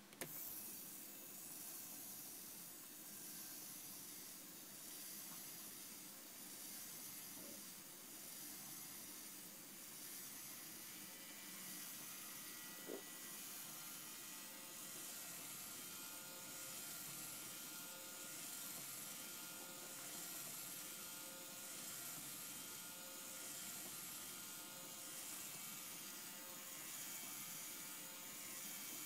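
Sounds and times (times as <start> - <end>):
small motor whirring gears: 0.2 - 29.0.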